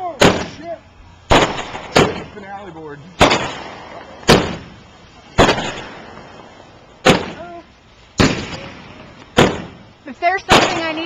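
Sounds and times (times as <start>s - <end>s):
fireworks bangs echoing: 0.0s - 7.6s, 8.2s - 11.0s.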